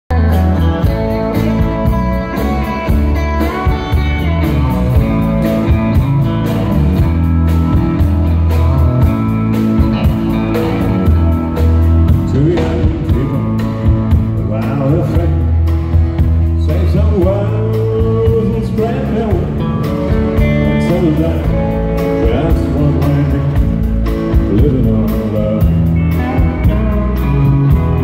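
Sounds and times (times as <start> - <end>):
bass: 0.0 - 28.0
drums: 0.1 - 28.0
electric and acoustic guitars: 0.1 - 28.0
pedal steel guitar: 0.1 - 28.0.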